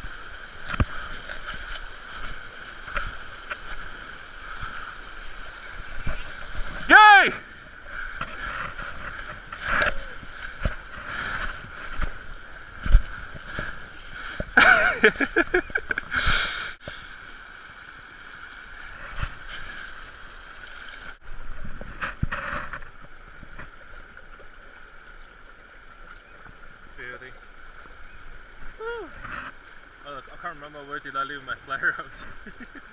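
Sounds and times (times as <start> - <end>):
stream rushing over stones: 0.0 - 32.9.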